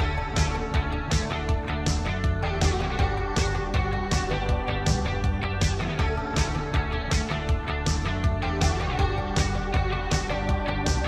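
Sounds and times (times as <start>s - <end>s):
song with guitar and beat: 0.0s - 11.0s.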